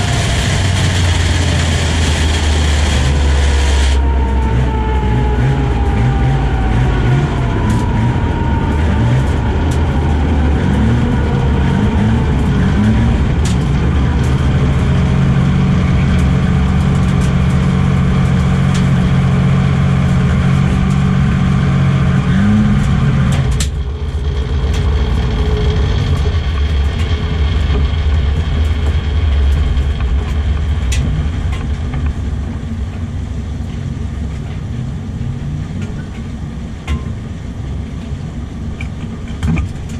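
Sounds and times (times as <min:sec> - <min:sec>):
turbocharged car engine revving: 0:00.0 - 0:36.0.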